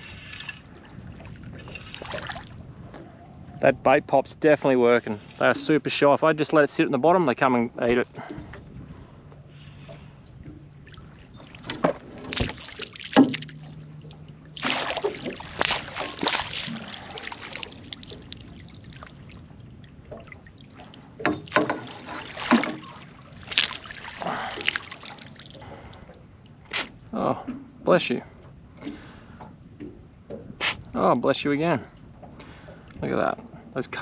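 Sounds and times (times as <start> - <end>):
water splashing and sloshing: 0.0 - 31.2, 31.8 - 34.0.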